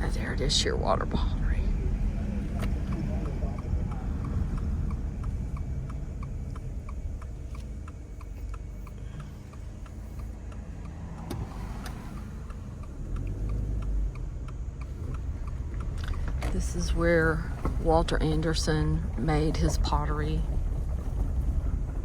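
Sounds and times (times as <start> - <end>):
car engine and tyre rumble: 0.0 - 22.0
turn signal ticking: 0.0 - 22.0.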